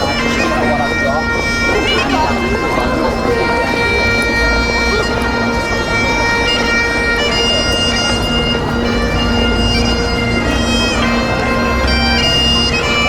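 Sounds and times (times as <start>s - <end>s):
bagpipes playing a tune: 0.0s - 13.0s.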